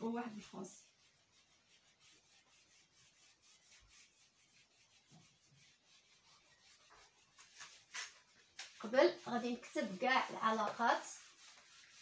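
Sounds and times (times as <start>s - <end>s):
eraser rubbing on whiteboard: 0.0s - 12.0s.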